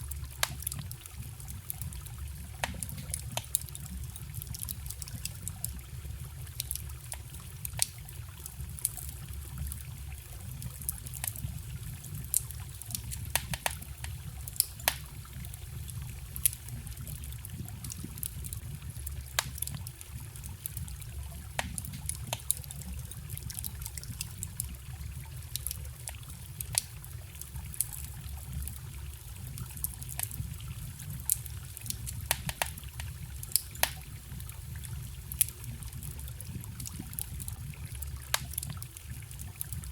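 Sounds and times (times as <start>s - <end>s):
campfire crackling and popping: 0.0s - 39.9s
forest stream trickling: 0.0s - 39.9s.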